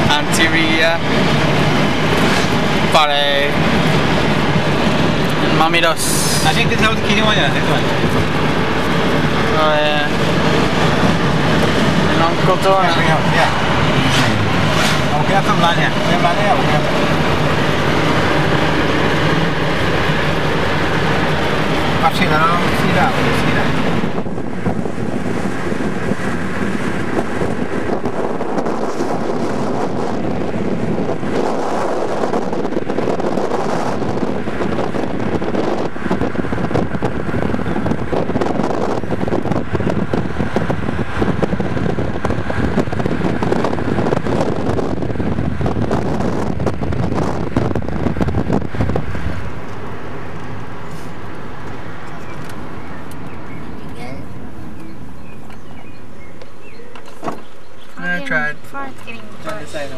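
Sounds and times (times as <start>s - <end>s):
car road noise: 0.0s - 59.9s
wind buffeting microphone: 0.0s - 59.9s.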